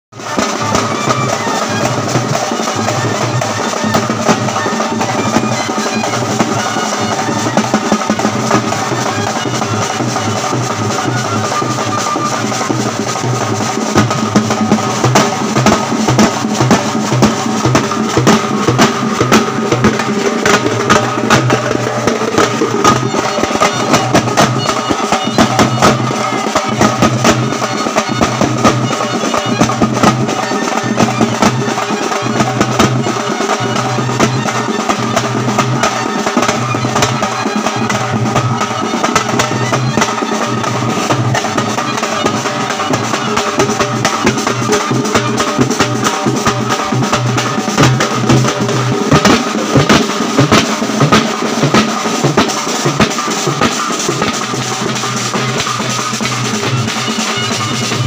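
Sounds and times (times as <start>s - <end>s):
drum band playing: 0.1s - 58.0s.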